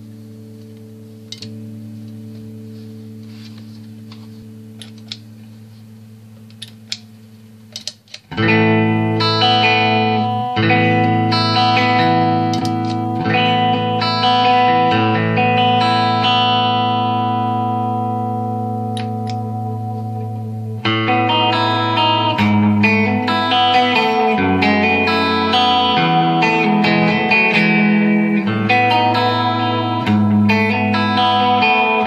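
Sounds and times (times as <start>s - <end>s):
overdriven electric guitar chords: 0.0s - 32.0s.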